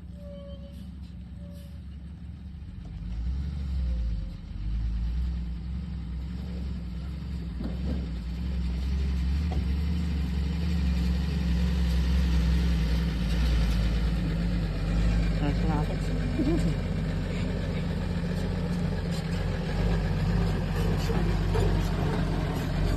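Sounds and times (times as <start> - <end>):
heavy vehicle engine rumbling: 0.0 - 22.9.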